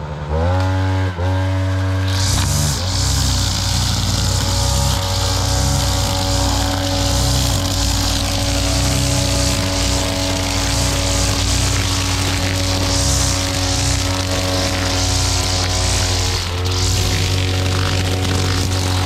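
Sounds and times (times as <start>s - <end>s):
brush cutter engine running: 0.0s - 19.0s
nylon line cutting grass: 1.6s - 19.0s.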